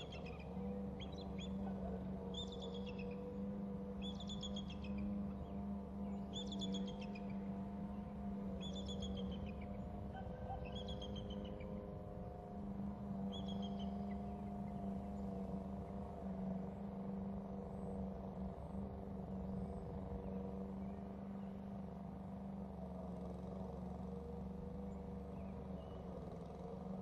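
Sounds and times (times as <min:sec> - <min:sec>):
low motor-like hum: 0:00.0 - 0:27.0.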